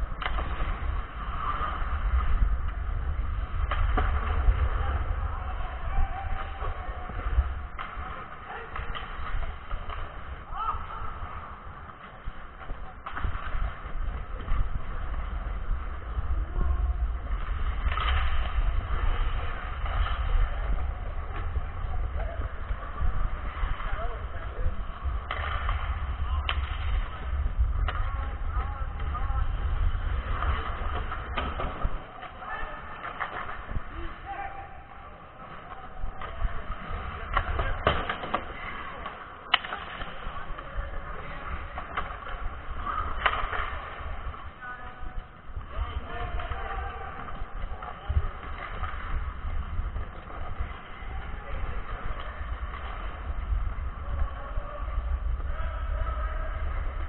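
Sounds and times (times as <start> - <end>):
hockey sticks and puck clacking: 0.0 - 16.4, 17.0 - 55.4
wind rumbling on microphone: 0.0 - 34.8, 40.0 - 57.0.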